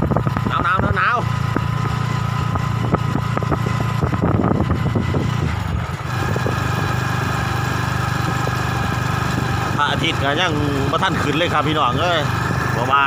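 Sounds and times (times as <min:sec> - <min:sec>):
small motorcycle engine: 0:00.0 - 0:13.0.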